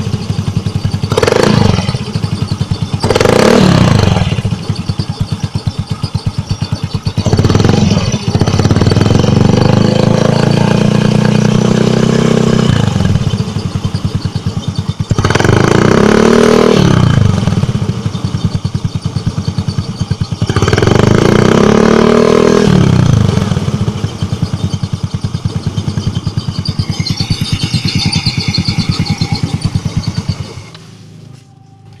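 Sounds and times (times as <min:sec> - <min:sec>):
faint high-pitched rattle: 0:00.0 - 0:16.0, 0:17.1 - 0:21.3, 0:23.3 - 0:32.0
motorcycle engine idling and revving: 0:00.0 - 0:32.0.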